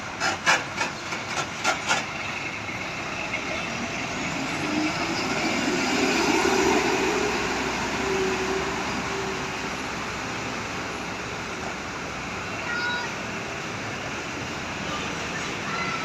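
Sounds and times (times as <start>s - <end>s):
truck engine drone: 0.0s - 16.0s.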